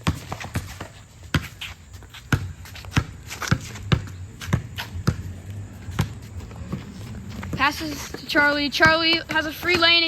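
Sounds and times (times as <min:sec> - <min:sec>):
basketball dribbling on floor: 0:00.0 - 0:10.0
footsteps: 0:00.0 - 0:10.0.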